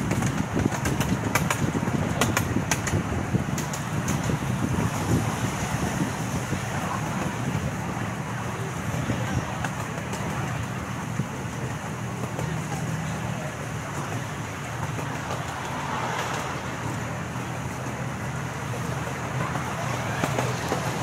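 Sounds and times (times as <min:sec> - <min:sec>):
ride train rumbling: 0:00.0 - 0:21.0.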